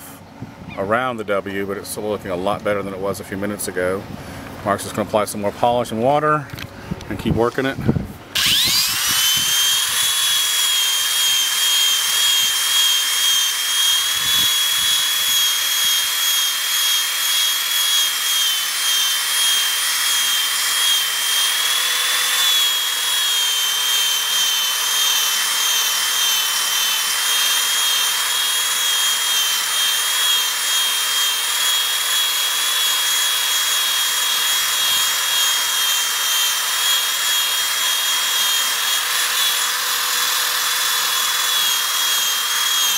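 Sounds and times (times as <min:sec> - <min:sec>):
drill whining: 0:08.3 - 0:42.9.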